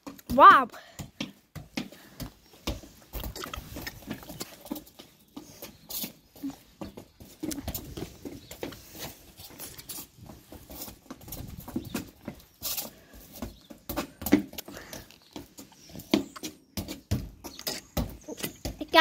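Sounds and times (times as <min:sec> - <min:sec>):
football kicks and bounces on stone: 0:00.0 - 0:05.5, 0:06.8 - 0:08.8, 0:10.3 - 0:19.0
trainers scuffing on paving: 0:00.0 - 0:19.0.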